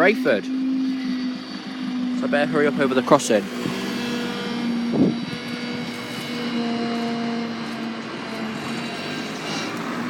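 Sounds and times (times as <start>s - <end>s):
vehicle engines humming: 0.0s - 10.0s.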